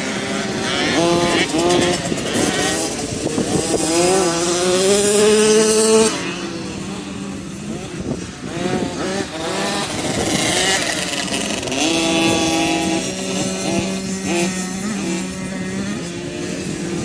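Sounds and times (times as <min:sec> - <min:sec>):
motocross bikes revving and passing: 0:00.0 - 0:17.0.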